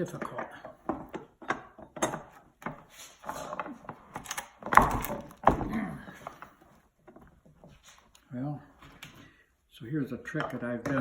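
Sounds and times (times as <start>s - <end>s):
tools scraping against a mold: 0.0s - 9.5s.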